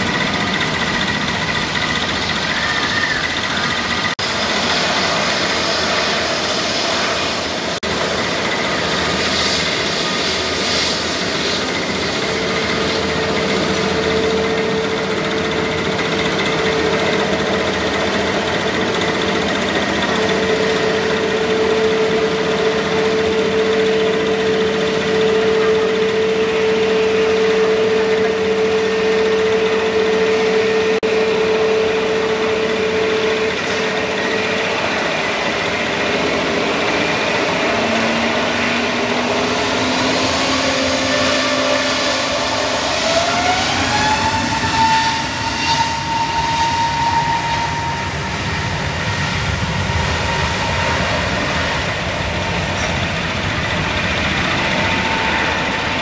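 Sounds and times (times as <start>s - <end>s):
jet engines whining and roaring: 0.0s - 56.0s.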